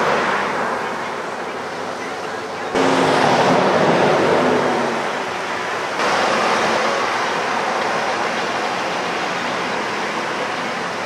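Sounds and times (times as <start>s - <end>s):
surf rushing on beach: 0.0s - 11.0s.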